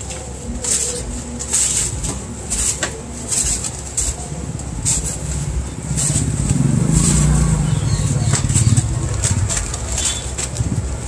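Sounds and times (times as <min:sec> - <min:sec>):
paper bag rustling: 0:00.0 - 0:11.0.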